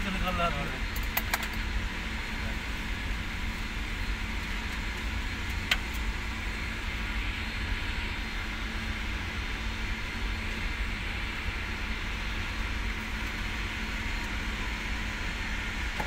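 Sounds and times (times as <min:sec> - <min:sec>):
faint constant hum: 0:00.0 - 0:16.0.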